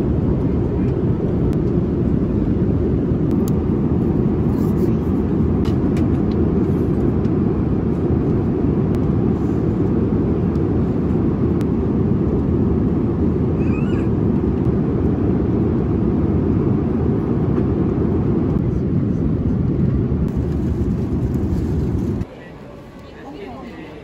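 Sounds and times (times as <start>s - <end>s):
airliner cabin engine rush: 0.0s - 24.0s.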